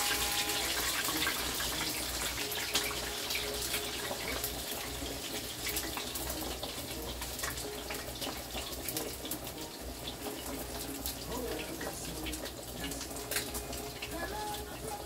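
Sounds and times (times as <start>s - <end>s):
oil crackling in frying pan: 0.0s - 15.0s
water boiling: 0.0s - 15.0s.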